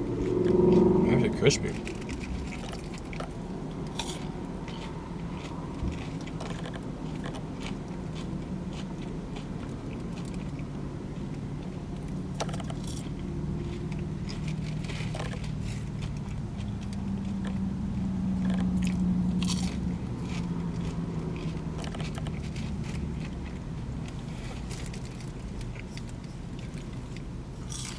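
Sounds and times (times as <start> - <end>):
low hum: 0.0 - 27.9
chewing crispy fries: 0.1 - 27.9.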